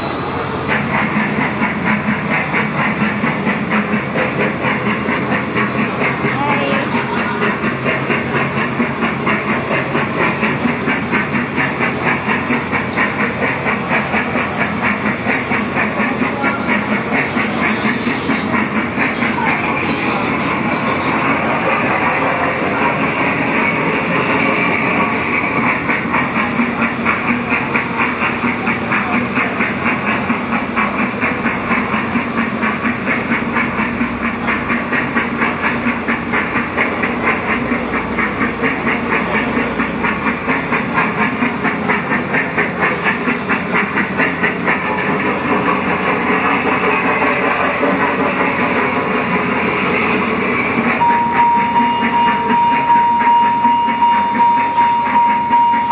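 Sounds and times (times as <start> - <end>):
kiddie ride train clattering on track: 0.0 - 55.9.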